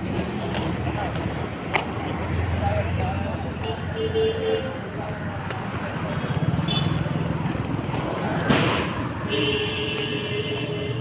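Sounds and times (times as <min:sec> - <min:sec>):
street traffic engine hum: 0:00.0 - 0:11.0.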